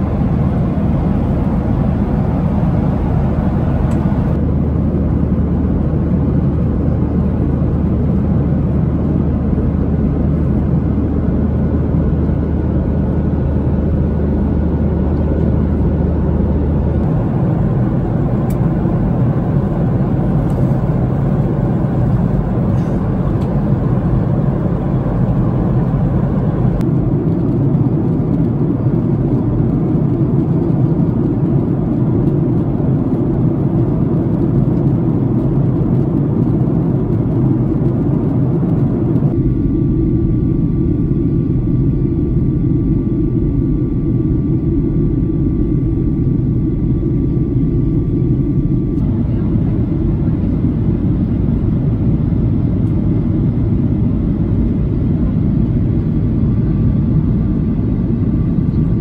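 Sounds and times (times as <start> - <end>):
airplane cabin noise: 0.0 - 59.0
low hum: 0.0 - 59.0.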